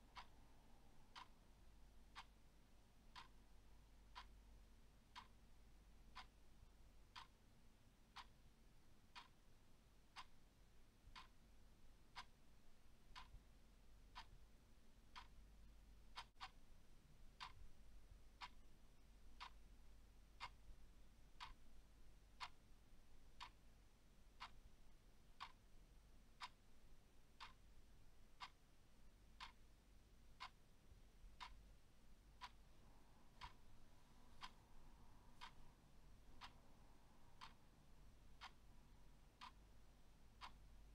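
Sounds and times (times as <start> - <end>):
clock ticking: 0.0 - 40.9
faint low hum: 0.0 - 40.9.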